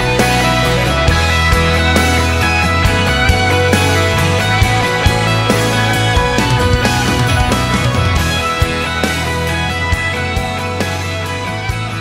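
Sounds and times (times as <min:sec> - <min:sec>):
song with guitar and drums: 0:00.0 - 0:12.0.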